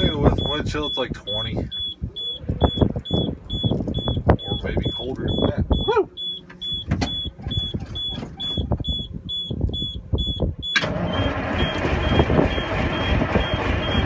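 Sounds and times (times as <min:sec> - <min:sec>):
diesel truck engine cranking and starting: 0:00.0 - 0:14.0
warning buzzer beeping: 0:00.0 - 0:14.0.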